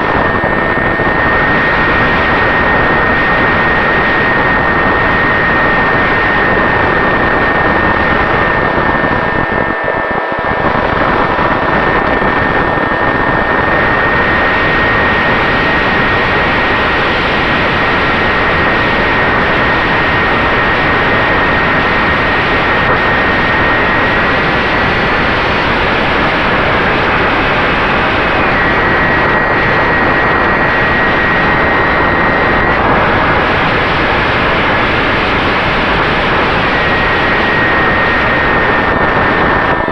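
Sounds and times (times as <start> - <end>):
electric motor high whine: 0.0 - 39.9
wind rush on microphone: 0.0 - 39.9.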